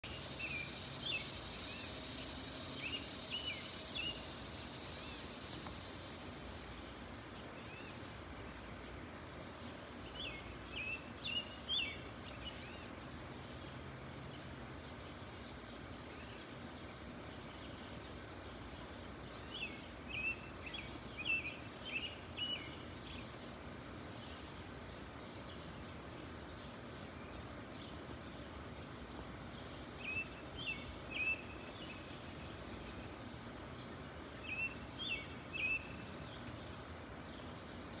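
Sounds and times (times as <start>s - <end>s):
outdoor background hiss: 0.0s - 38.0s.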